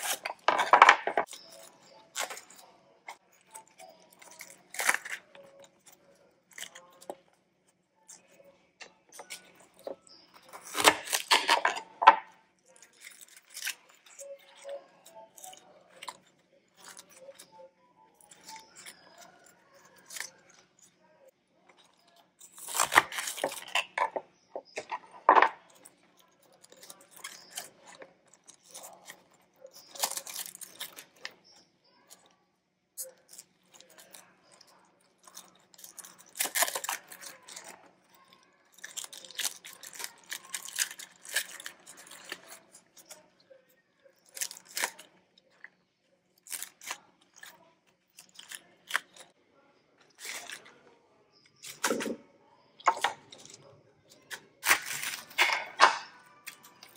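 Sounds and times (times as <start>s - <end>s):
radicchio leaves tearing and crunching: 0.0s - 7.2s, 8.1s - 20.9s, 21.7s - 32.3s, 33.0s - 43.4s, 44.1s - 45.7s, 46.4s - 49.4s, 50.0s - 50.8s, 51.5s - 52.2s, 52.8s - 56.9s.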